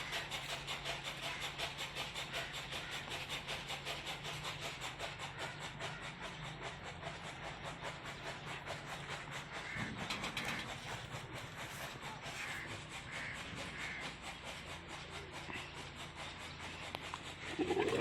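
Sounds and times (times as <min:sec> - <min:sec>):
stationary diesel engine running: 0:00.0 - 0:18.0.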